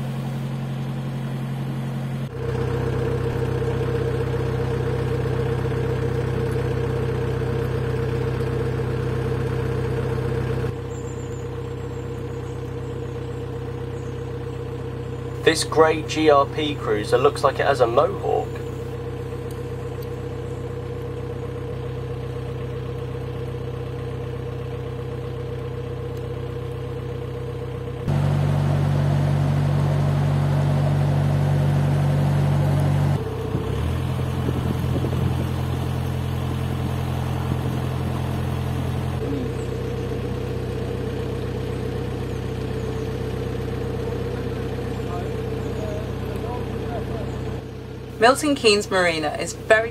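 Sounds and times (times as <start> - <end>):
boat diesel engine droning: 0.0 - 49.9.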